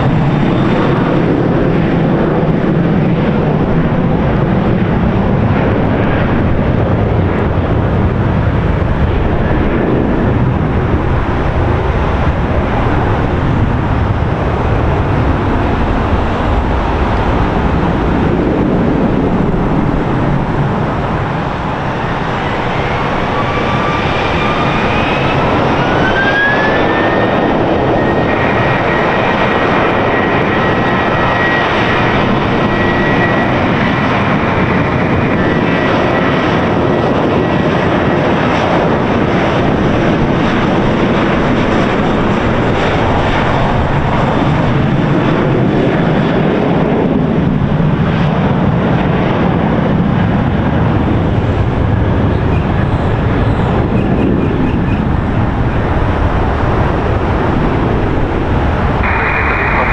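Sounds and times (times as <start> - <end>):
jet engines running loud: 0.0 - 59.9.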